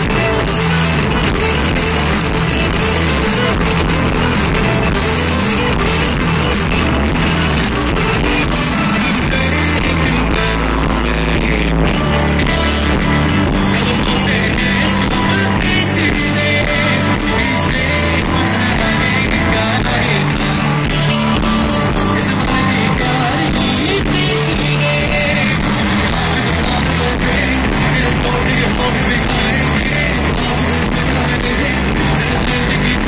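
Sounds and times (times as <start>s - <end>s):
electric guitar: 0.0s - 33.0s
person singing: 0.0s - 33.0s.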